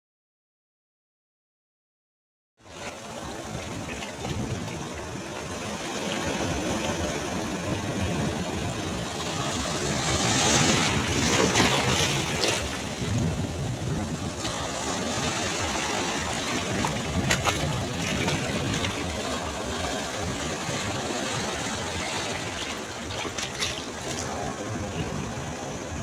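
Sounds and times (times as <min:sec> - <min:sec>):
ocean surf on beach: 0:02.7 - 0:26.0.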